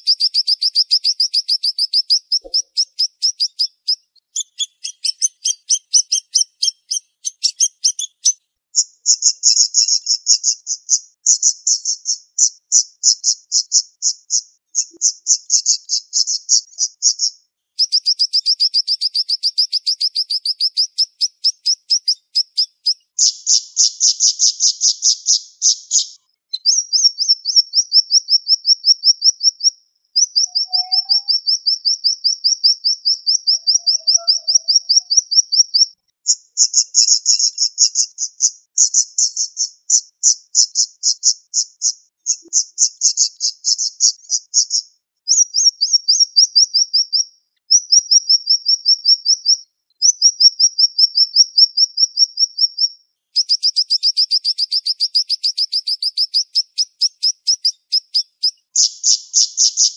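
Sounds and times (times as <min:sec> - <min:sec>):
songbird trilling: 0:00.0 - 0:59.9.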